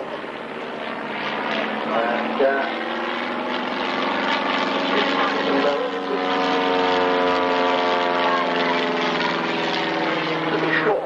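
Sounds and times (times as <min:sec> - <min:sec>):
propeller plane engine drone: 0:00.0 - 0:11.0.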